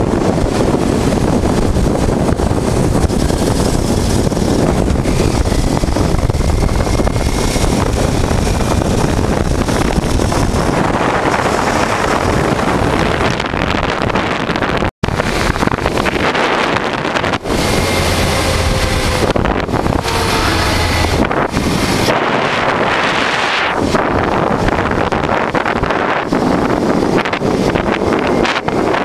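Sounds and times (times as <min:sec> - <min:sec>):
motorcycle engine droning: 0:00.0 - 0:29.0
wind rushing over microphone: 0:00.0 - 0:29.0.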